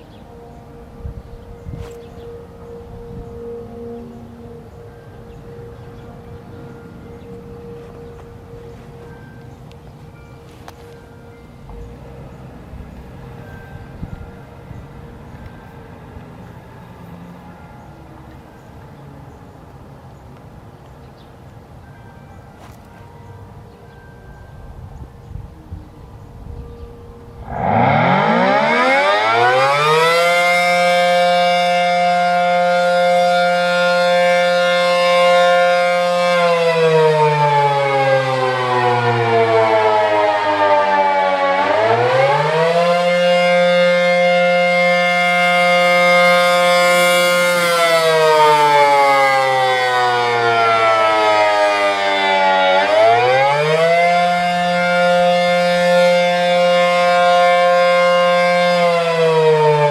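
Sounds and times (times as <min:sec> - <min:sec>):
warning siren wailing: 0:00.0 - 0:20.8, 0:21.6 - 0:59.9.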